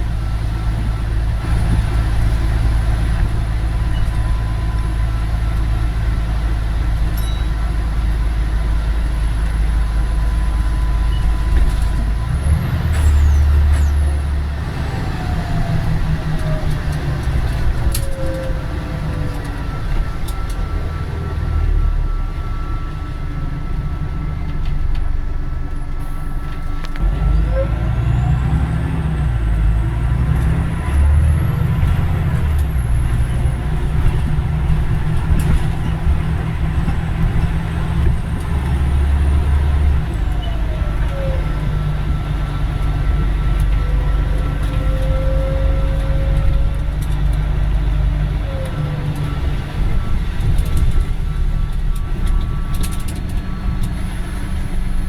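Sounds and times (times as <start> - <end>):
bus diesel engine under load: 0.0 - 55.0.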